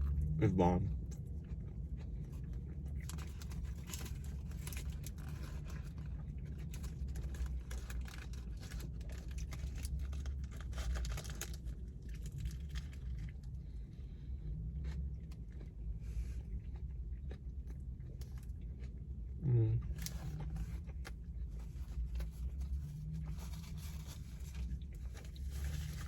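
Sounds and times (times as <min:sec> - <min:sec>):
chewing with wet mouth smacks: 0:00.0 - 0:26.0
steady low hum: 0:00.0 - 0:26.0.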